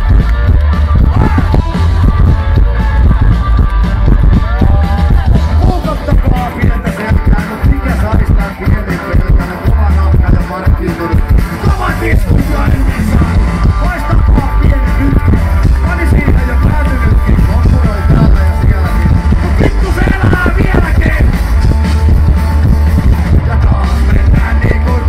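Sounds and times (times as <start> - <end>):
drums: 0.0 - 25.0
electric guitar: 0.0 - 25.0
live punk rock band: 0.0 - 25.0
man singing: 0.9 - 25.0.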